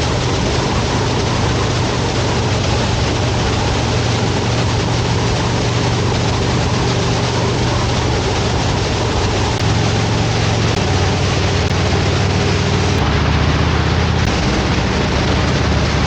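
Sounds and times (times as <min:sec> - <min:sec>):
motorcycle engine hum: 0:00.0 - 0:16.0
wind rush on microphone: 0:00.0 - 0:16.0.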